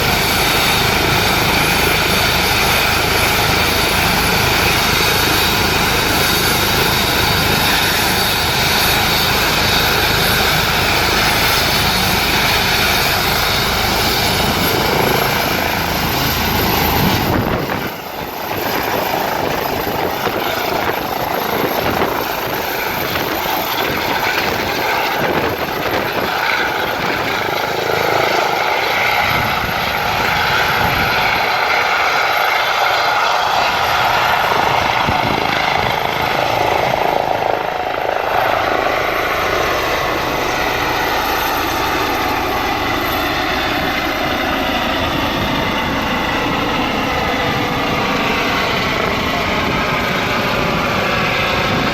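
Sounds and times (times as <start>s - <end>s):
helicopter rotor noise: 0.0s - 51.9s
helicopter turbines whining: 0.0s - 51.9s.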